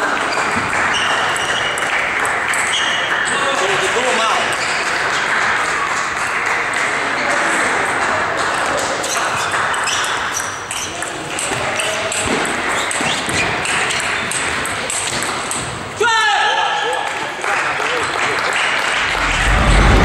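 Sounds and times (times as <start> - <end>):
hubbub of other games: 0.0 - 17.2.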